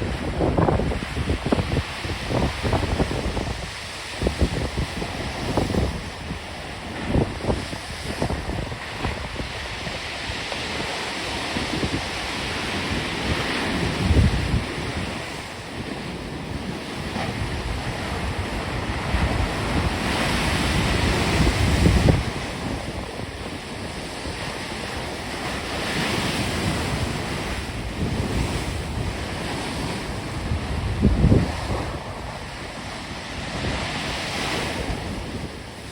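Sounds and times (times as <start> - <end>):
storm waves breaking: 0.0 - 35.9
wind buffeting microphone: 0.0 - 35.9.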